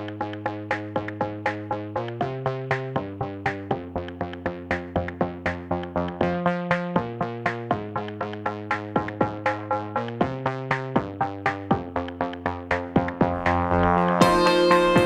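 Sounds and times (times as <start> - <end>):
held bass notes: 0.0 - 15.0
synthesizer plucked notes: 0.0 - 15.0.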